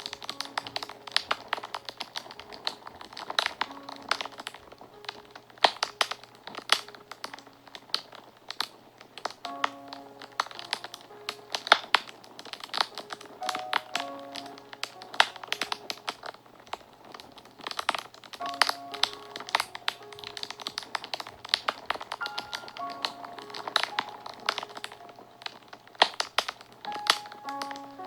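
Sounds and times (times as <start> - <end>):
soft background music: 0.0 - 28.0
wood fire crackling and popping: 0.0 - 28.0.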